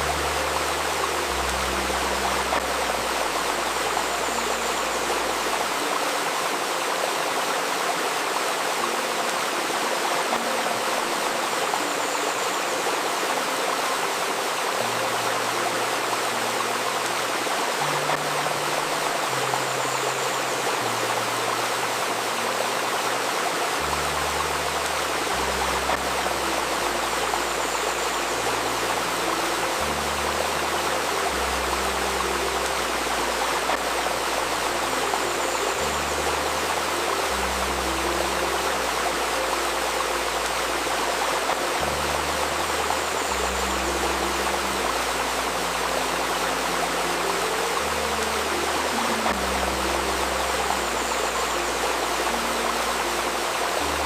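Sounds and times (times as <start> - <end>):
river babbling over stones: 0.0 - 54.0
slow ambient low notes: 0.0 - 54.0.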